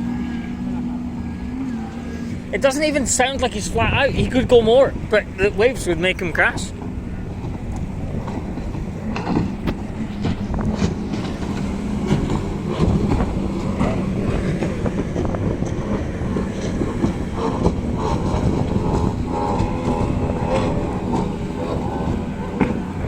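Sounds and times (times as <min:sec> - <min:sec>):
powerboat engine droning: 0:00.0 - 0:23.0.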